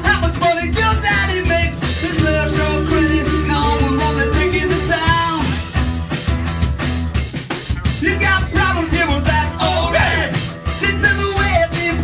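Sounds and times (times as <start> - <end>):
man singing: 0.0 - 5.7, 7.8 - 12.0
drum kit beat: 0.0 - 12.0
rock band playing: 0.0 - 12.0.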